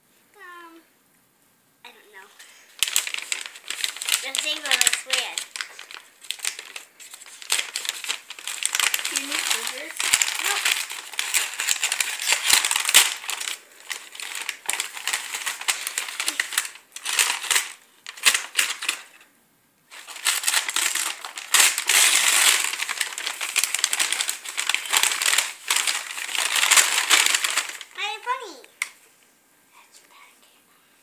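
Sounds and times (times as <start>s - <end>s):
wrapping paper crinkling: 2.2s - 19.2s, 19.9s - 29.0s.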